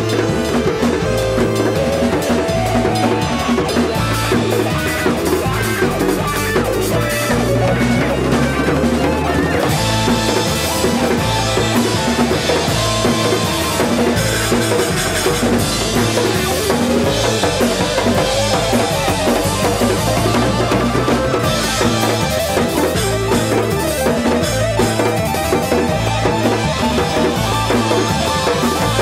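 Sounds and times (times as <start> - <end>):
drum kit beat: 0.0 - 29.0
electric bass: 0.0 - 29.0
electric guitar: 0.0 - 29.0.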